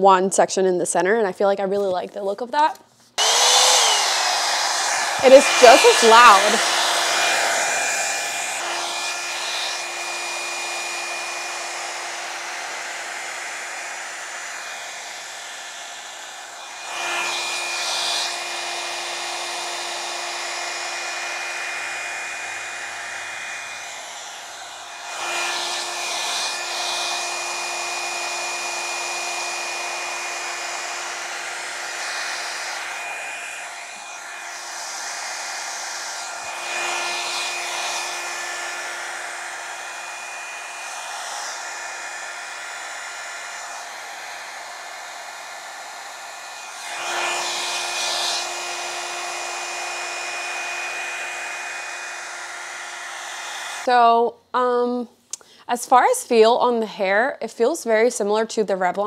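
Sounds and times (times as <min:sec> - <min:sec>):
hot-air brush dryer whirring: 0:03.1 - 0:56.5.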